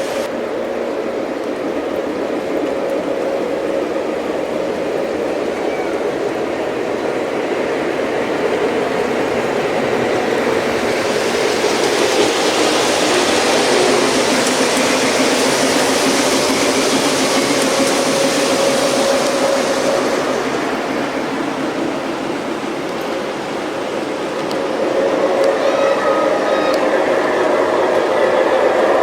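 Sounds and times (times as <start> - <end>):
model trains rumbling on track: 0.0 - 29.0.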